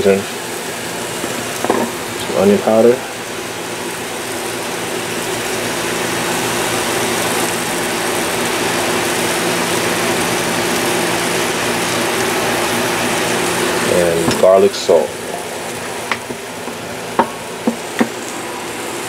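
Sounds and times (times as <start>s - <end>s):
food sizzling in a skillet: 0.0s - 19.0s.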